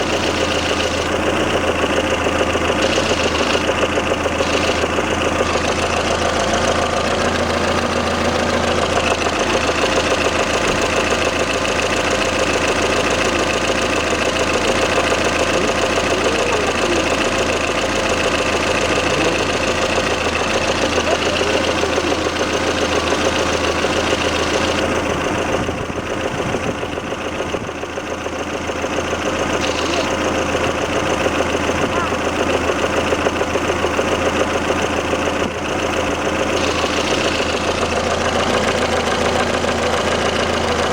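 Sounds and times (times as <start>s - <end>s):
car engine knocking: 0.0s - 40.9s.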